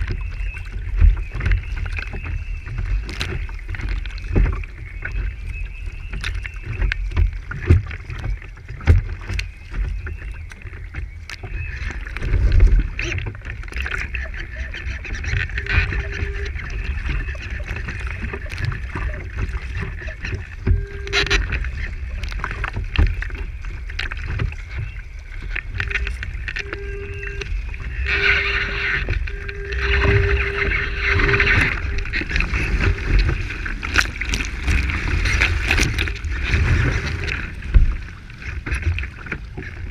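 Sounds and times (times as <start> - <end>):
faint whine: 0.0 - 39.9
water rushing along hull: 0.0 - 39.9
wind buffeting camera: 0.0 - 39.9.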